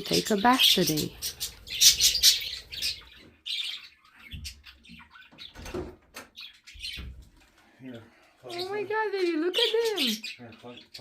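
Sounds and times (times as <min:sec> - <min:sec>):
budgerigars chirping: 0:00.0 - 0:07.2, 0:08.4 - 0:11.0.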